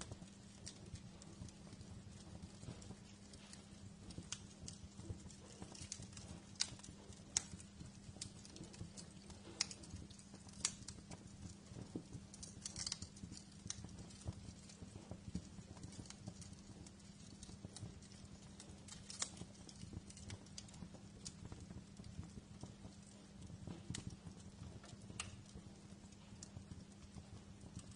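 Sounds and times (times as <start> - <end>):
low steady hum: 0.0 - 27.9
wood fire crackling: 0.0 - 27.9.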